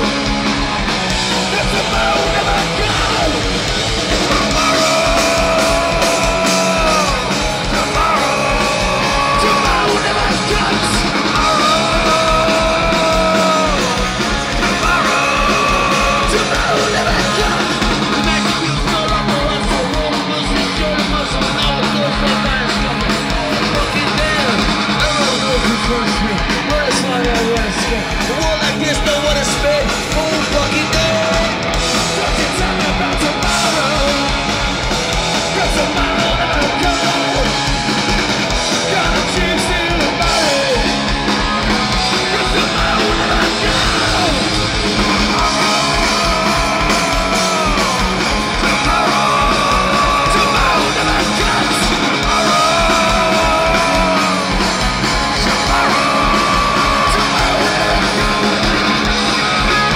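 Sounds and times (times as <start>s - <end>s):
bass guitar: 0.0s - 59.9s
distorted electric guitars: 0.0s - 59.9s
drums: 0.0s - 59.9s
vocals: 0.0s - 59.9s.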